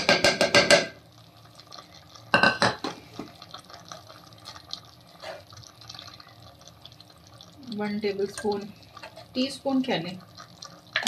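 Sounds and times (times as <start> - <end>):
faint kitchen noise: 0.0 - 11.0.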